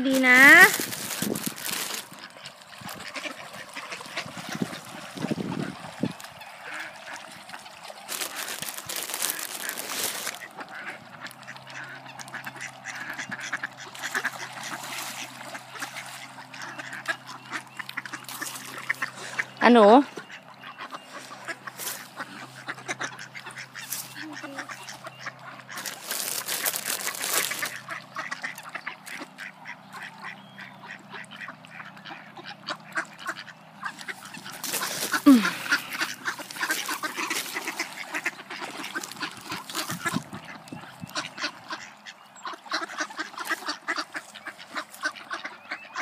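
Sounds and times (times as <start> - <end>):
ducks quacking: 0.0 - 46.0.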